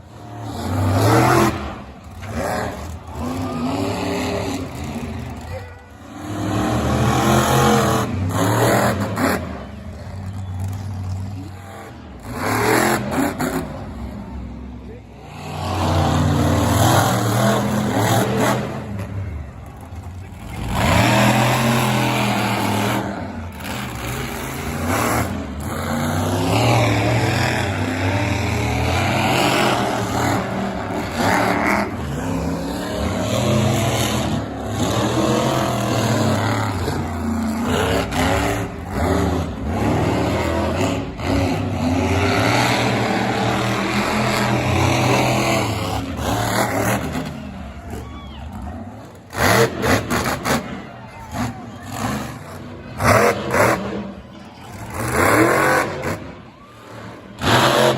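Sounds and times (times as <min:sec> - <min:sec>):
monster truck engines revving: 0:00.0 - 0:57.9.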